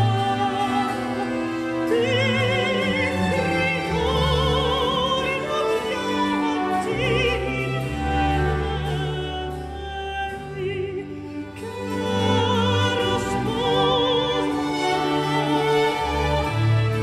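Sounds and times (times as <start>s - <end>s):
countertenor singing opera aria: 0.0s - 17.0s
string orchestra sustained notes: 0.0s - 17.0s.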